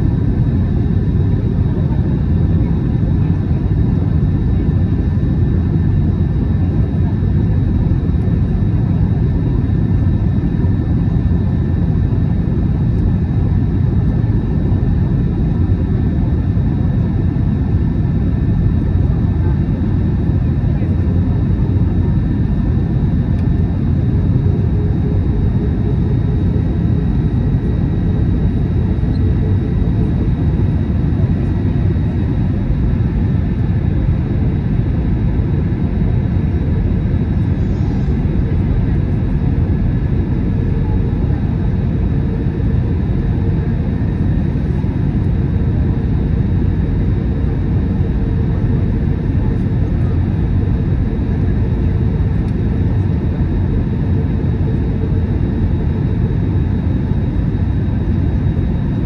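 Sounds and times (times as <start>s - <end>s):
engine drone in cabin: 0.0s - 59.0s.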